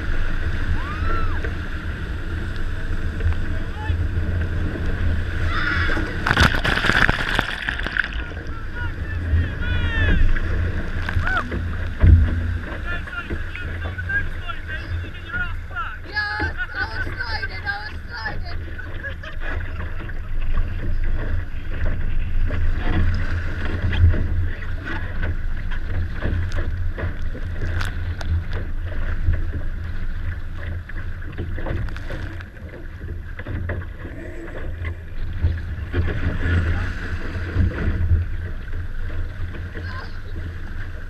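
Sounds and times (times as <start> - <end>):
water splashing along hull: 0.0 - 41.0
wind rumbling on microphone: 0.0 - 41.0.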